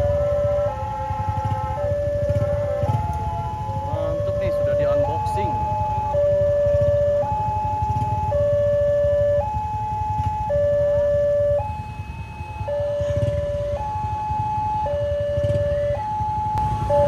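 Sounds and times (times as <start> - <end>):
motorcycle engines idling: 0.0 - 17.0
two-tone crossing warning siren: 0.0 - 17.0.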